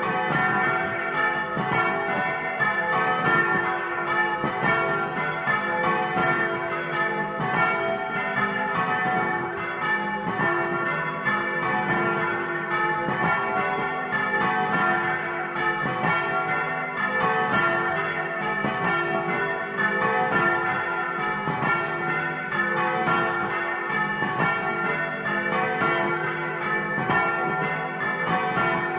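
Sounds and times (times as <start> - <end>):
church bells pealing: 0.0 - 28.9.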